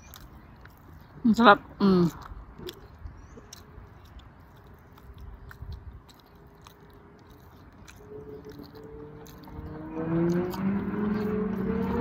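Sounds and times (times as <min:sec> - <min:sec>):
person chewing: 0:00.0 - 0:01.2, 0:02.0 - 0:12.0.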